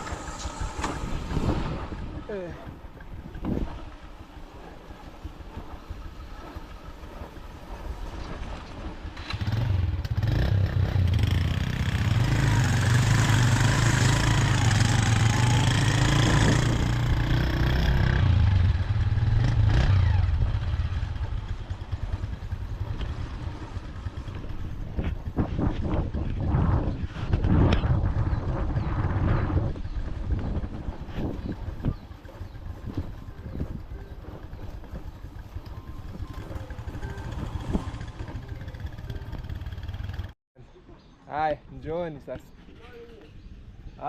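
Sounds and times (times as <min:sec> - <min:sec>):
motorcycle passing by: 0:00.0 - 0:40.4.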